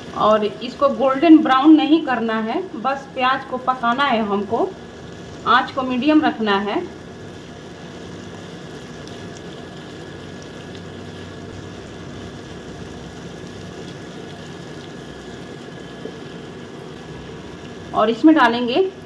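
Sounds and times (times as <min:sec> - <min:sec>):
cooktop hum: 0:00.0 - 0:19.0
onions sizzling in oil: 0:00.0 - 0:19.0.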